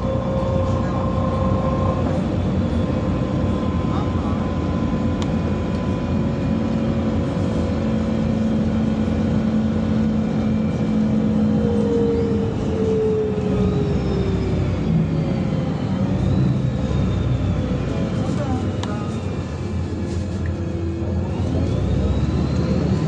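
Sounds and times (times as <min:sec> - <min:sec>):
bus engine rumble and whine: 0:00.0 - 0:23.0.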